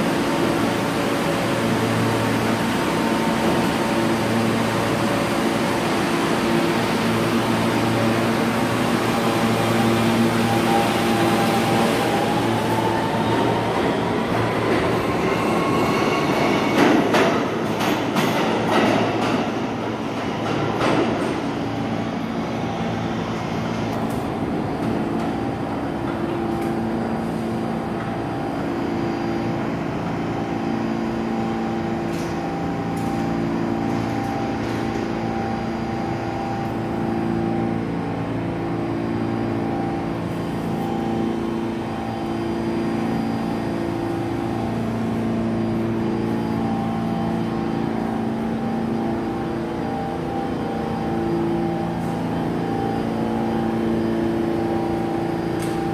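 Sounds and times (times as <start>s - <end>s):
train rumble and hum: 0.0s - 55.9s.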